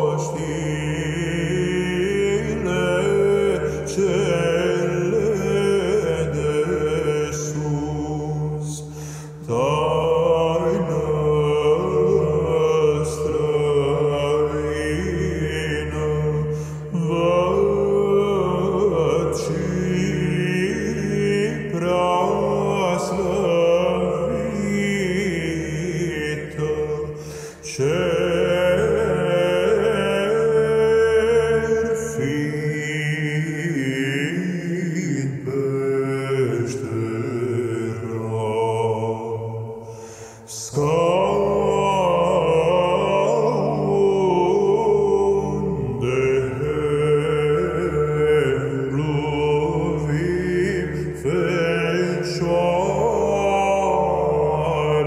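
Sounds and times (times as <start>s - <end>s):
low sung drone: 0.0s - 55.0s
men chanting a hymn: 0.0s - 55.0s.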